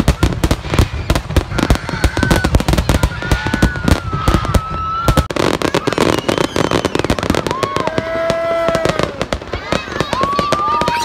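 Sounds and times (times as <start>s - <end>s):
falling firework whistle: 0.0s - 11.0s
fireworks bangs and crackling: 0.0s - 11.0s.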